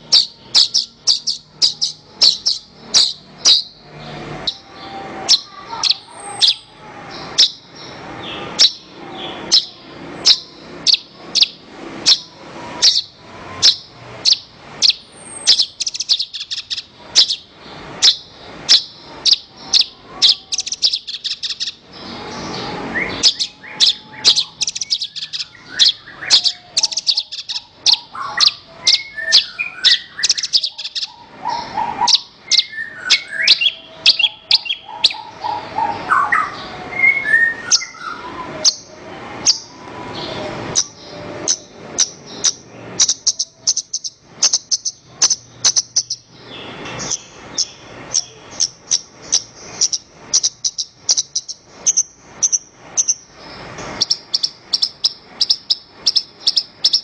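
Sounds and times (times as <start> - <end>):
lark singing: 0.0 - 57.0.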